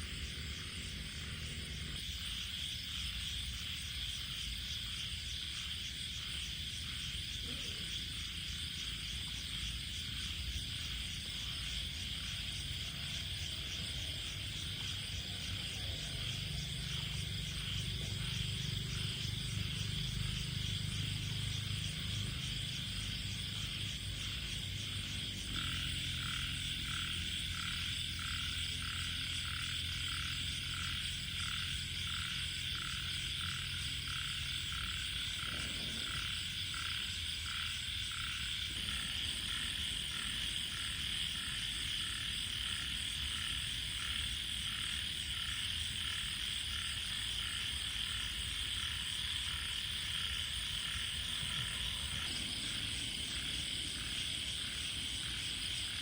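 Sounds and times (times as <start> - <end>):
night insects chorus: 0.0 - 56.0.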